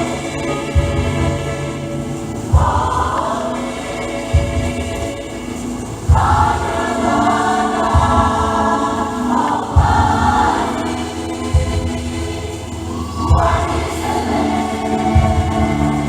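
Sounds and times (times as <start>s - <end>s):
church choir singing: 0.0s - 16.0s.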